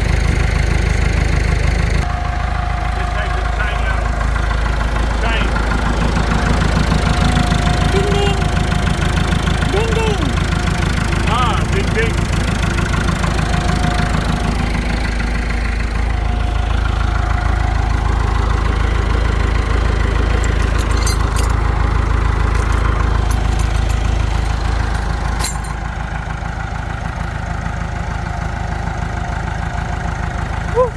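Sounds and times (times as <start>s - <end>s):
excavator diesel engine idling: 0.0s - 30.9s.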